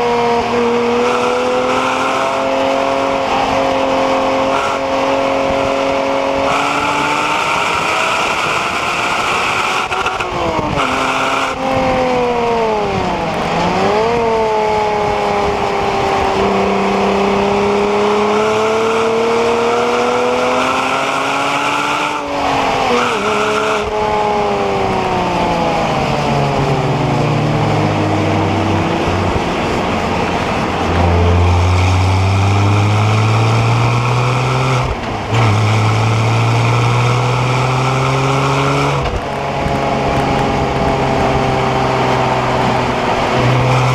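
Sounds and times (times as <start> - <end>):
car engine driven hard: 0.0 - 43.9.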